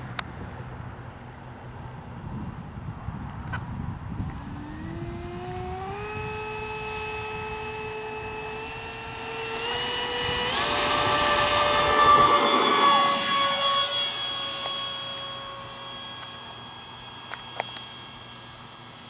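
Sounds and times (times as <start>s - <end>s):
electric ducted fan whining: 0.0s - 19.0s.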